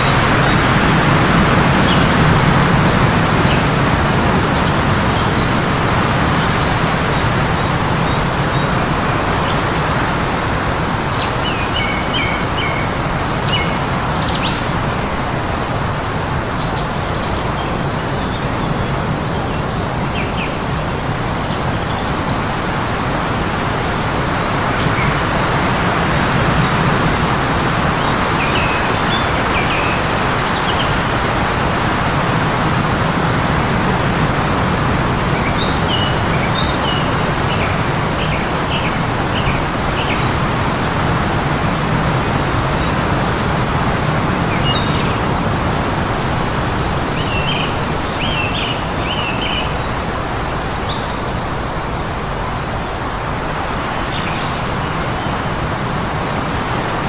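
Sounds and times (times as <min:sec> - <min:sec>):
birds chirping: 0:00.0 - 0:57.0
heavy blizzard wind: 0:00.0 - 0:57.0.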